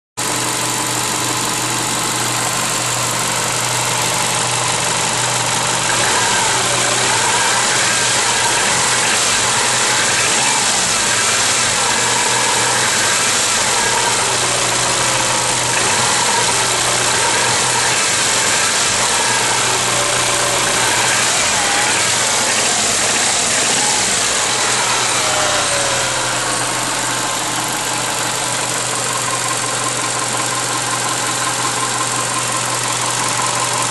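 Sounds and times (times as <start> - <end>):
car engine running with knock: 0.2 - 33.9.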